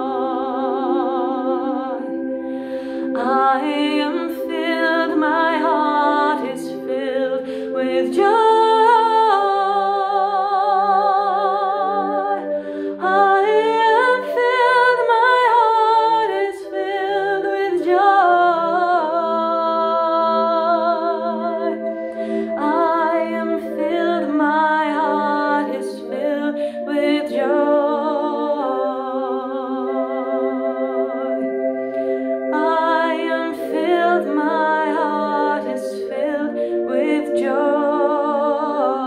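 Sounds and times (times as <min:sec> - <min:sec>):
sustained instrument chords: 0:00.0 - 0:39.0
woman singing with vibrato: 0:00.0 - 0:39.0.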